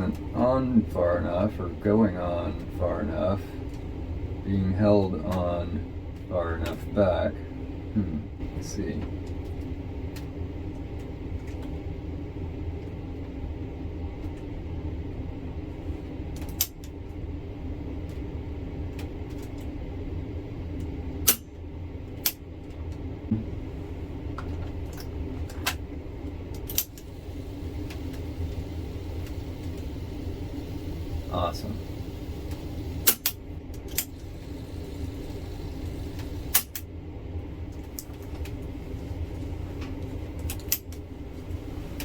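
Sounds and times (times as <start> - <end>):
tape transport whirring: 0.0 - 42.0.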